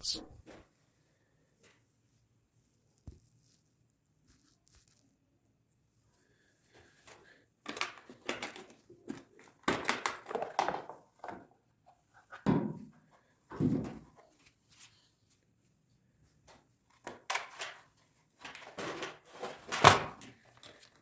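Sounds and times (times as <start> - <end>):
rustling and scraping handling noises: 1.6 - 21.0.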